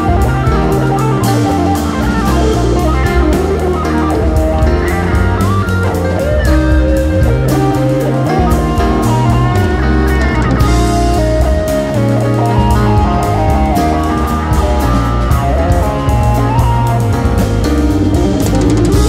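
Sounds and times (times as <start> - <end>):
bass guitar: 0.0 - 19.0
drum kit: 0.0 - 19.0
electric guitar melody: 0.0 - 19.0.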